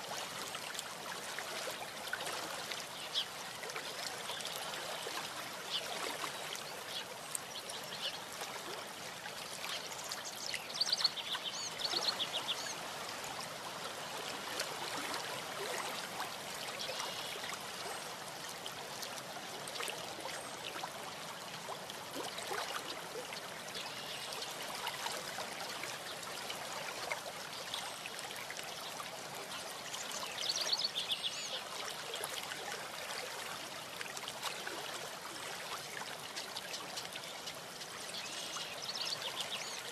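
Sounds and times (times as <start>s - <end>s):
steady outdoor microphone hiss: 0.0s - 39.9s.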